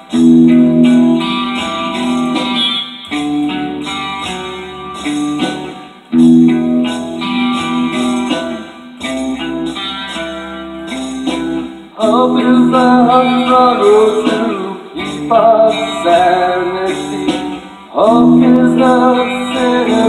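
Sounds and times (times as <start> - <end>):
electric guitar hard rock: 0.0 - 20.0.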